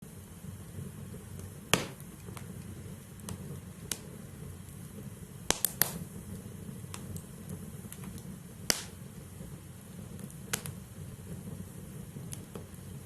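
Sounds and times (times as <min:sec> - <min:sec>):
burning logs crackling and popping: 0:00.0 - 0:13.0
fire low rumble: 0:00.0 - 0:13.0.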